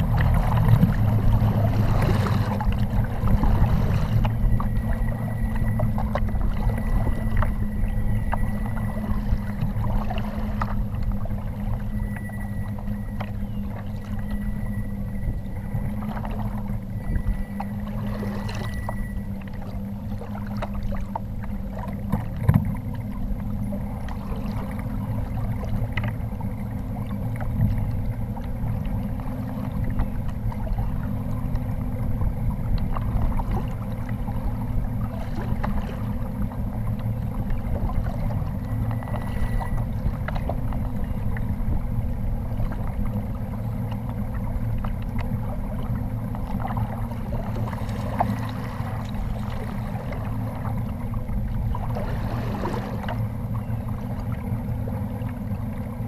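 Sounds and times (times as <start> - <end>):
low hum: 0.0 - 56.0
water lapping against kayak hull: 0.0 - 56.0.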